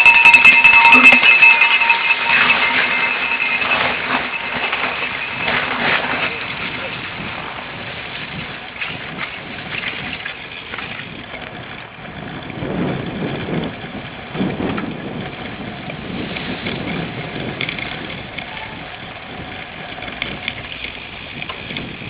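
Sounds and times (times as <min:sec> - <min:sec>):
bike tyre noise: 0:00.0 - 0:22.0
wind buffeting microphone: 0:00.0 - 0:22.0.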